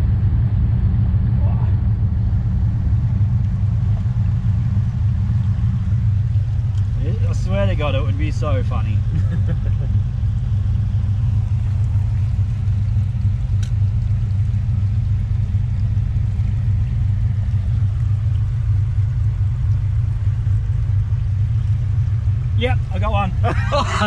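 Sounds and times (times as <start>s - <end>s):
engine idling low rumble: 0.0s - 24.0s
river running: 2.5s - 24.0s.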